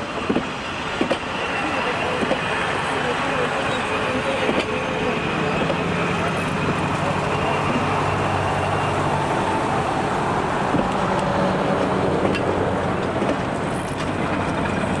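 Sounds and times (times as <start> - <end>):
diesel locomotive engine running: 0.0 - 15.0
train wheels on rails: 0.0 - 15.0.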